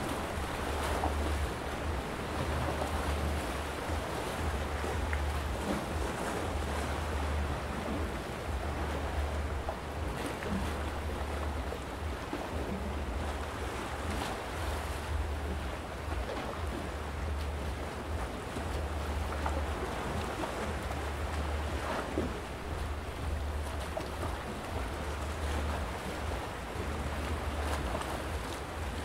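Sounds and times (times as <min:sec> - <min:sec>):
sea lapping against rocks: 0:00.0 - 0:29.0
small water splashes: 0:00.0 - 0:29.0
wind buffeting microphone: 0:00.0 - 0:29.0.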